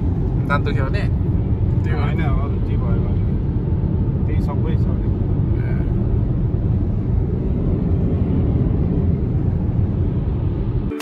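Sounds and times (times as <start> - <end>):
vehicle road and wind rumble: 0.0 - 11.0.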